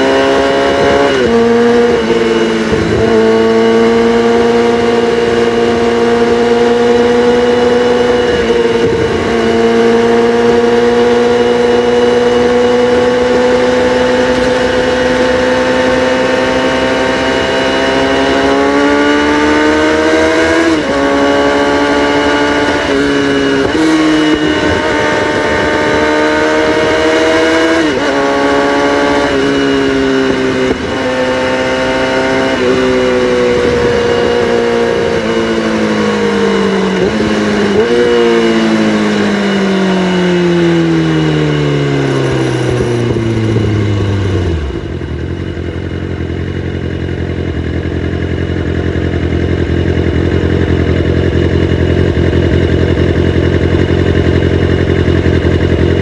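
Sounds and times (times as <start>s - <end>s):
motorcycle engine revving and idling: 0.0s - 56.0s.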